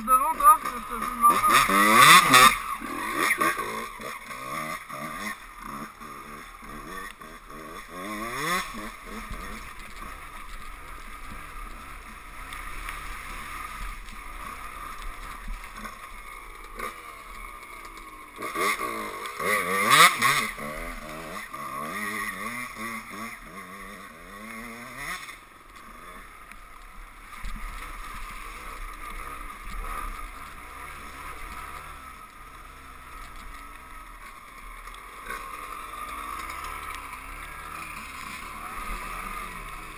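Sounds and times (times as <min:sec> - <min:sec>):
two-stroke motorcycle engines revving: 0:00.0 - 0:39.9.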